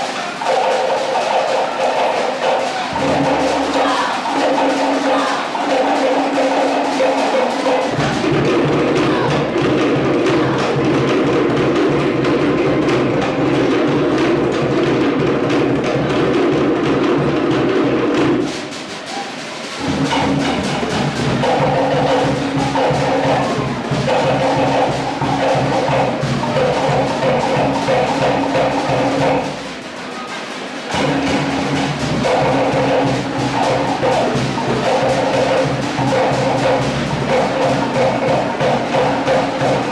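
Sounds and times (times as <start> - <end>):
wooden slit drums: 0.0 - 39.9
bass drum: 2.9 - 5.4, 7.8 - 18.5, 19.8 - 29.6, 30.9 - 39.9.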